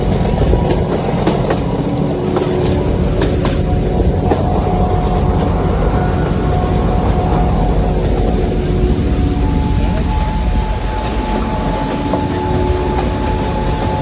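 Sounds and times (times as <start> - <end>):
faint steady whine: 0.0 - 14.0
train rumble: 0.0 - 14.0
wheels clicking over rail joints: 0.0 - 14.0.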